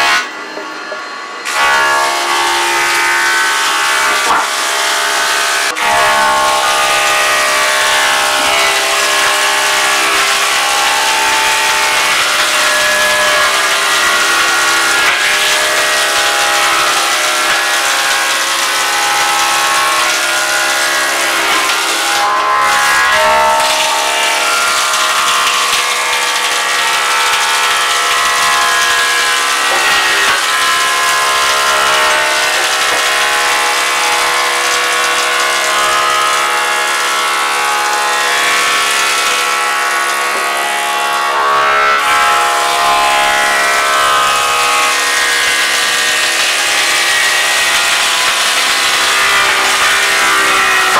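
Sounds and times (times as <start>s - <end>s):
thickness planer whining: 0.0s - 50.9s.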